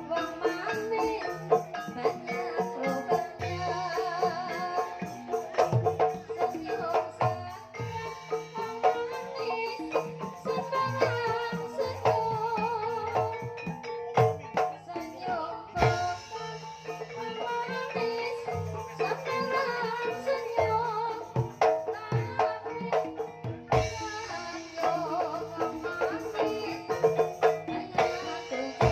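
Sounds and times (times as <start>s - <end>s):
woman singing with vibrato: 0.0s - 13.8s, 14.4s - 28.9s
gamelan percussion and drums: 0.0s - 28.9s.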